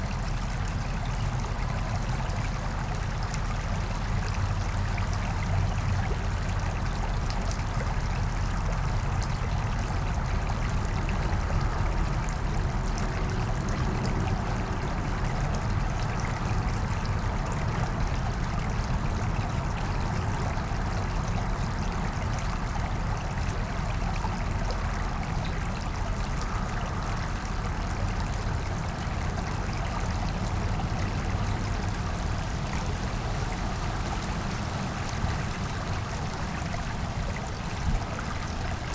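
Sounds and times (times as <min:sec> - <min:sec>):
brook babbling over rocks: 0:00.0 - 0:38.9.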